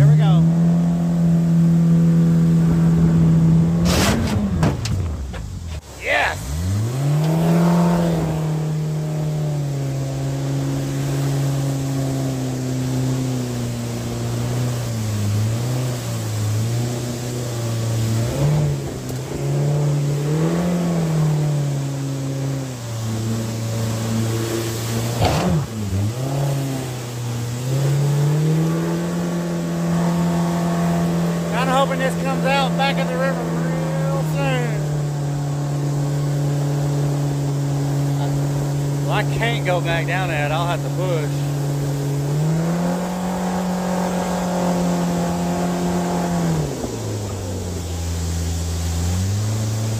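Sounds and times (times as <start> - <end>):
outboard engine running: 0.0 - 49.9.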